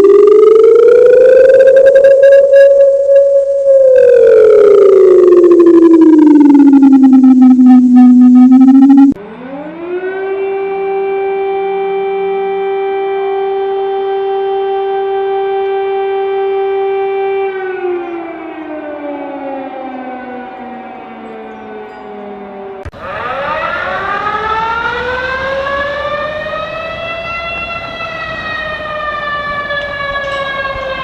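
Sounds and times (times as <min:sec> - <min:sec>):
civil defence siren winding: 0:00.0 - 0:31.0.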